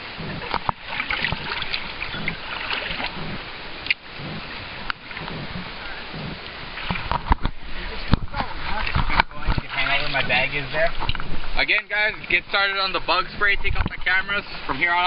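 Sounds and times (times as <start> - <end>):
water splashing and running: 0.0 - 15.0.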